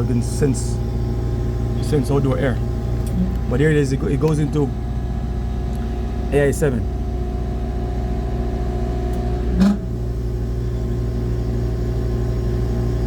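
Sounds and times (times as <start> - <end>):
hvac unit humming: 0.0 - 13.0.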